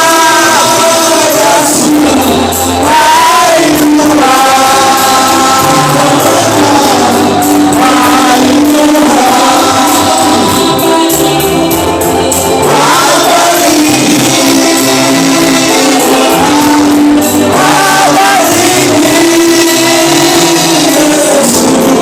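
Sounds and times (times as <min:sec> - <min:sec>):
band accompaniment with bass: 0:00.0 - 0:22.0
choir singing gospel music: 0:00.0 - 0:22.0.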